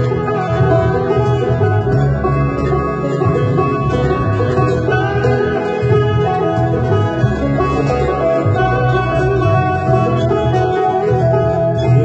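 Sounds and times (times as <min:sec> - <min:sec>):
band with bass line: 0:00.0 - 0:12.0
banjo picking: 0:00.0 - 0:12.0.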